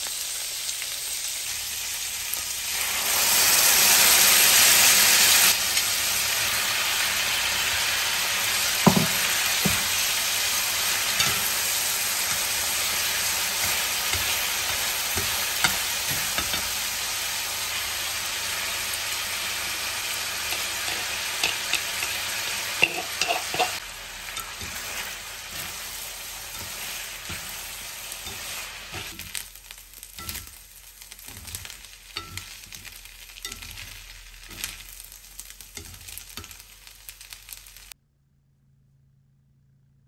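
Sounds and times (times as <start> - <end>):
pasta sizzling in a frying pan: 0.0 - 38.0.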